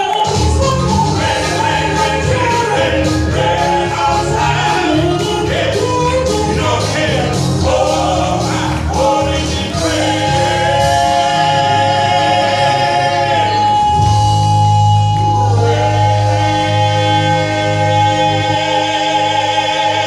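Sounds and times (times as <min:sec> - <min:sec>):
male vocal group singing gospel: 0:00.0 - 0:20.0
bass line: 0:00.1 - 0:20.0.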